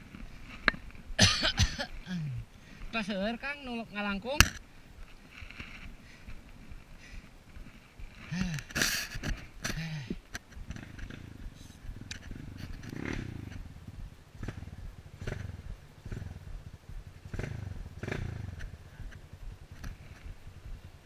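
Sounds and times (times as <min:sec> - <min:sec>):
motorcycle engine low putter: 0:00.0 - 0:02.9, 0:04.2 - 0:21.0.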